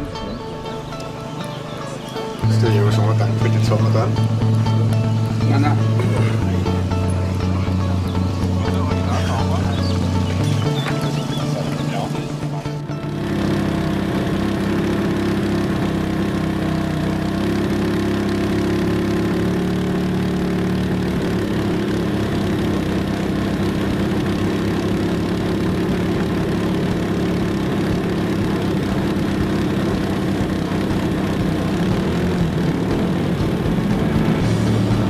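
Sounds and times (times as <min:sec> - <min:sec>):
model plane engines idling: 0:00.0 - 0:35.0.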